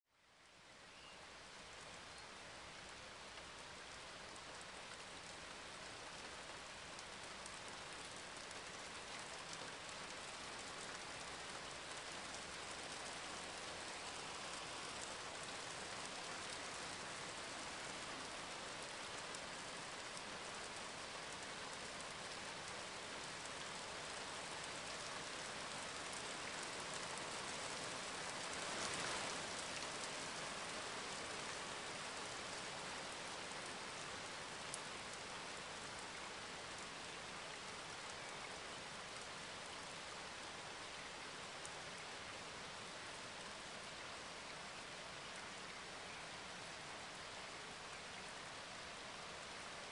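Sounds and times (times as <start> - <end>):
steady rain: 0.1 - 49.9.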